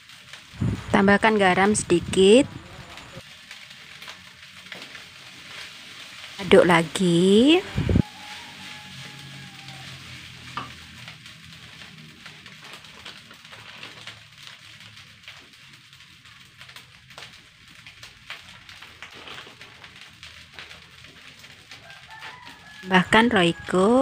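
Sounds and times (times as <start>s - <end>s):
rice sizzling in a wok: 0.0s - 24.0s.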